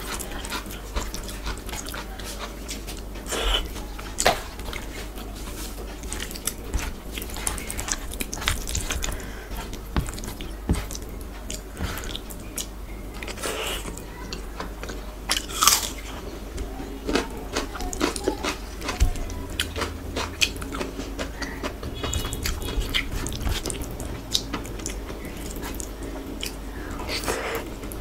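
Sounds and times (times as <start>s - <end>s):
person chewing food: 0.0s - 16.3s, 16.9s - 28.0s.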